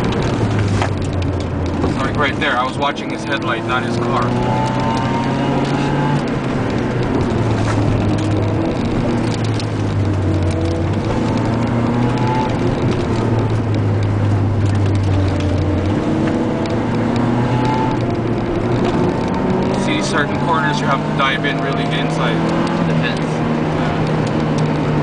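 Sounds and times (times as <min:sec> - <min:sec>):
car engine: 0:00.0 - 0:25.0
road noise: 0:00.0 - 0:25.0.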